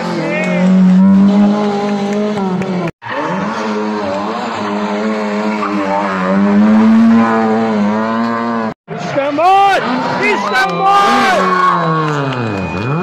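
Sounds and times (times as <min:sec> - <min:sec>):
rally car engines at high revs: 0:00.0 - 0:13.0.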